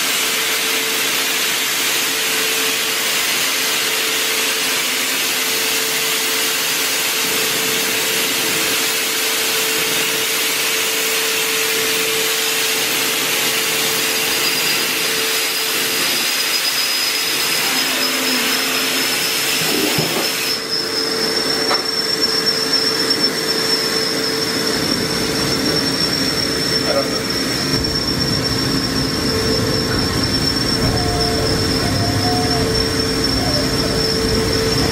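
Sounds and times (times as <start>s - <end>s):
machine hiss: 0.0s - 34.9s
high whine: 2.4s - 34.9s
machine humming tone: 3.8s - 34.9s.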